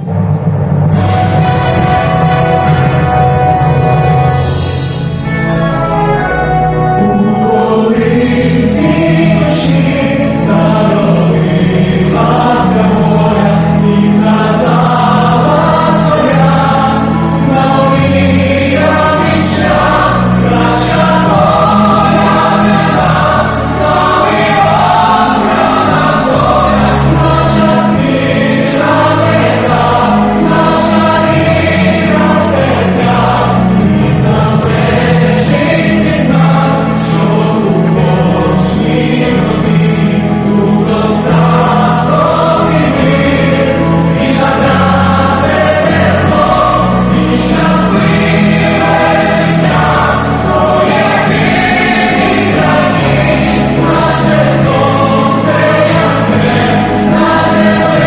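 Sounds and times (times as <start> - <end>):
orchestral accompaniment: 0.0 - 58.0
choir singing: 0.9 - 58.0.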